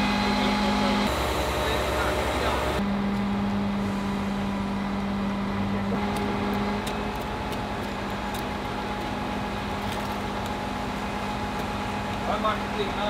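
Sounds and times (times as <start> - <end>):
engine whine: 0.0 - 13.0
truck engine humming: 0.0 - 13.0.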